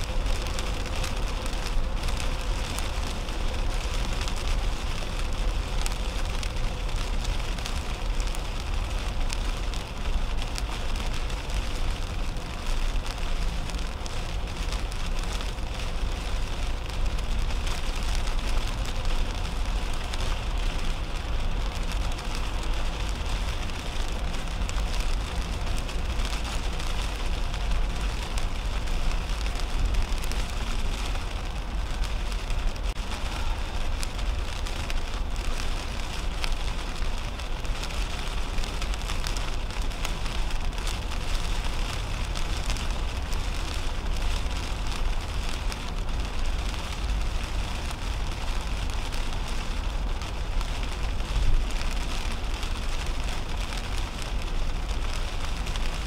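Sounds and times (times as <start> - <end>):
heavy rain on car windshield: 0.0 - 56.0
tyres rumbling on wet road: 0.0 - 56.0.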